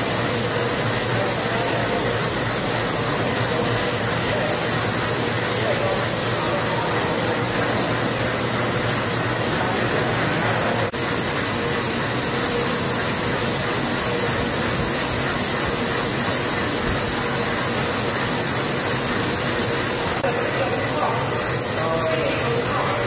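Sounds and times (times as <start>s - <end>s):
film line machine hissing: 0.0s - 23.0s.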